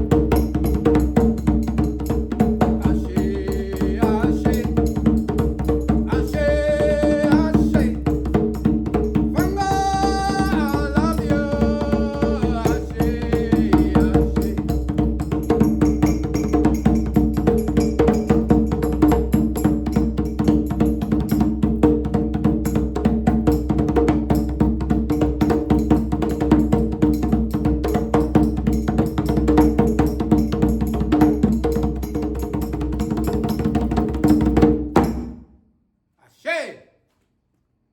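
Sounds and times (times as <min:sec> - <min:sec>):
djembe hand drumming: 0:00.0 - 0:35.4.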